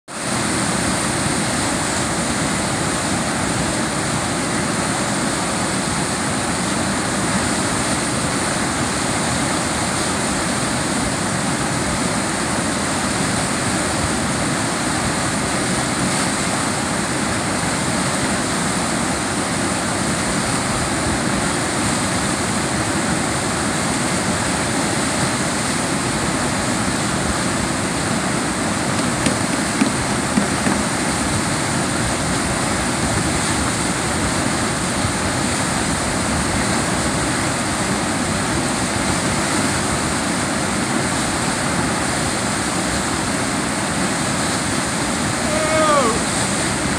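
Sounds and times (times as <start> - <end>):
whitewater rushing: 0.1 - 46.9.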